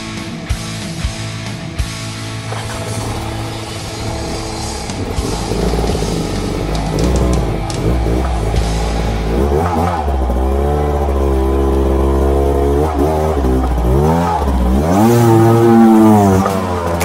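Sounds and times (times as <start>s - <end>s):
dirt bike engine revving: 2.5s - 17.0s.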